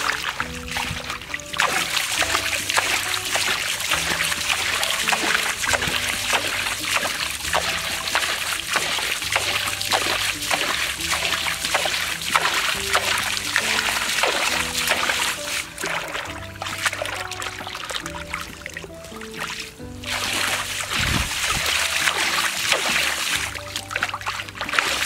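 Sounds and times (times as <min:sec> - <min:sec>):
background music: 0:00.0 - 0:25.0
hands splashing in muddy water: 0:00.0 - 0:25.0.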